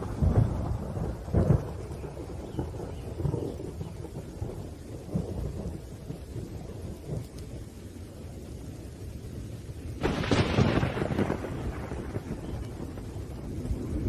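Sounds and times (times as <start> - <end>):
sharp thunderclap: 0.0 - 7.3, 10.0 - 14.0
rain: 0.0 - 14.0
thunder rumbling: 0.0 - 14.0.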